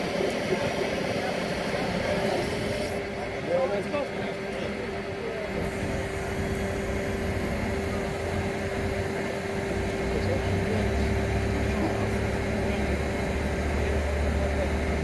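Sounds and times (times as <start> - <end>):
crane engine running: 0.0 - 15.0.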